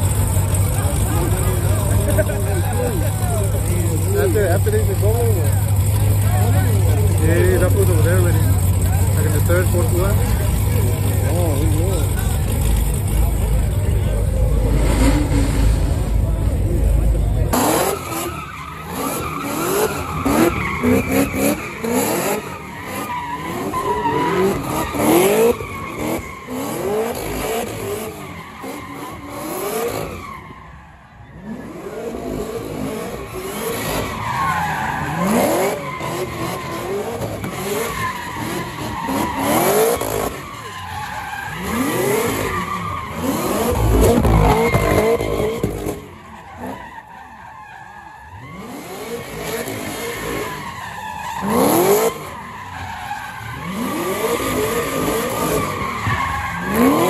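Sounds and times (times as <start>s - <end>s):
tyres squealing on concrete: 0.0s - 16.2s, 17.0s - 57.0s
car engine revving hard: 0.0s - 30.3s, 31.4s - 40.7s, 41.5s - 46.8s, 48.6s - 50.7s, 51.4s - 57.0s.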